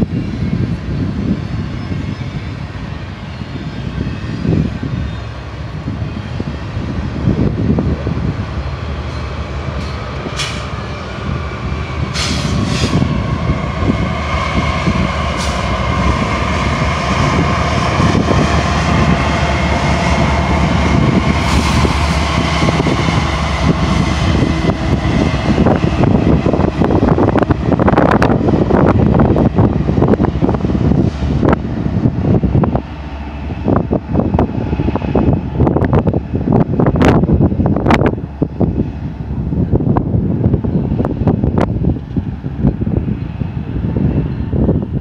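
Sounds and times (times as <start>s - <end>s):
diesel locomotives passing: 0.0s - 45.0s
freight train rolling on rails: 0.0s - 45.0s.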